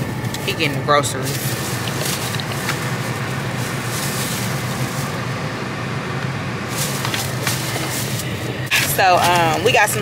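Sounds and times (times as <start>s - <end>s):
car cabin drone: 0.0s - 10.0s.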